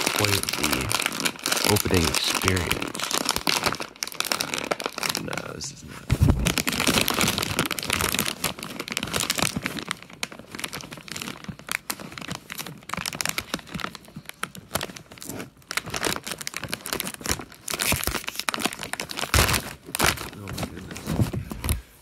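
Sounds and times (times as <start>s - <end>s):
plastic chip bag crinkling: 0.0s - 5.7s, 6.3s - 21.8s.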